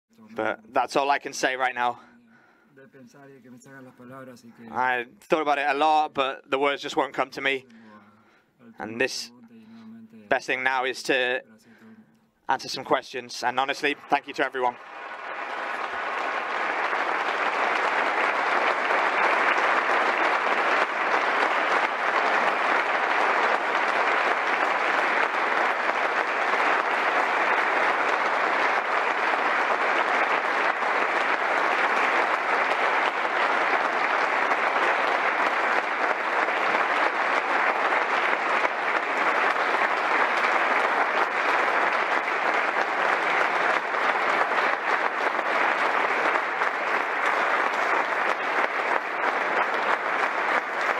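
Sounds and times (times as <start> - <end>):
audience applauding: 0.4 - 2.1, 4.8 - 7.6, 12.7 - 50.9.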